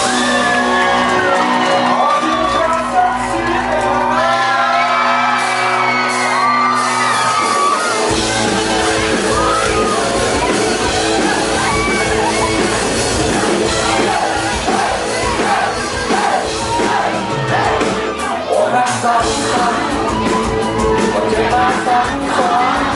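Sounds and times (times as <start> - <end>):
crowd shouting and whooping: 0.0 - 22.9
live music with singing: 0.0 - 22.9.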